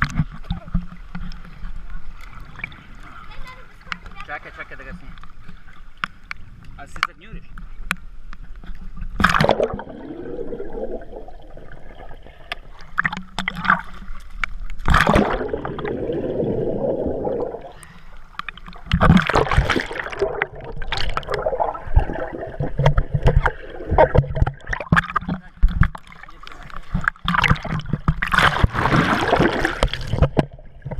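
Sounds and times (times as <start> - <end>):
water splashing and gurgling: 0.0 - 7.7, 8.4 - 30.9.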